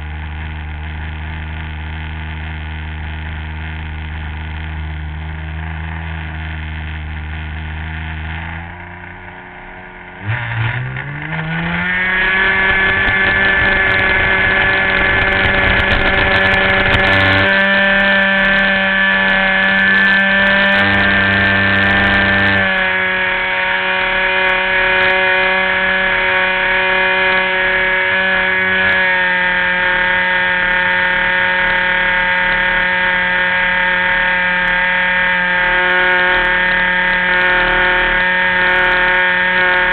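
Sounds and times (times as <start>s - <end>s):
model airplane engine: 0.0s - 39.9s.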